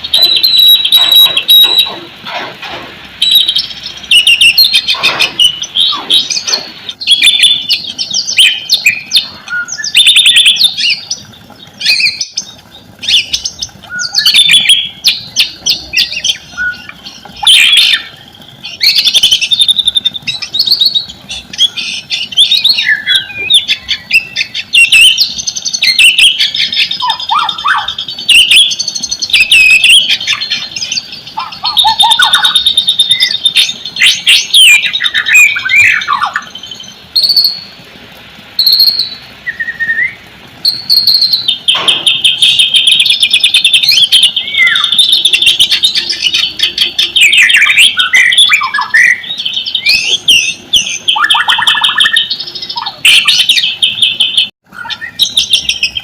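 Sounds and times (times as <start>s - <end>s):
songbird singing whistles and trills: 0.0s - 2.1s, 3.2s - 37.8s, 38.6s - 56.0s.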